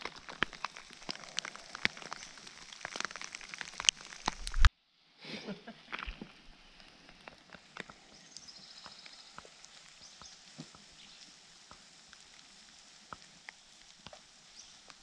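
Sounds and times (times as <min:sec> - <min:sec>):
faint ticks and snaps: 0:00.0 - 0:04.7, 0:05.9 - 0:15.0.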